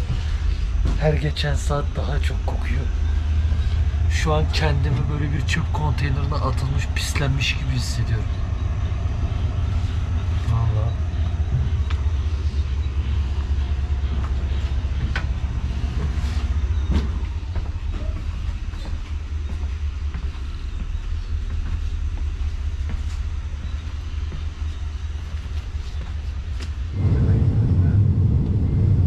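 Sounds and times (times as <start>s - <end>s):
train carriage rumble: 0.0s - 29.0s.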